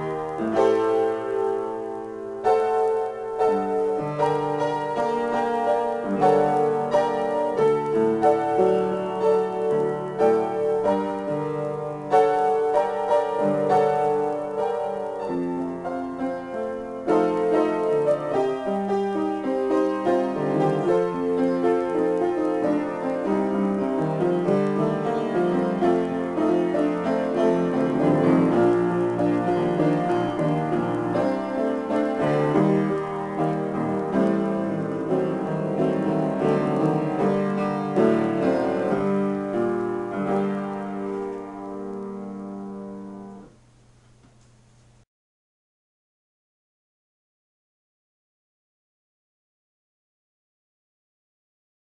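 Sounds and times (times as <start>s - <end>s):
solo piano improvisation: 0.0s - 45.0s.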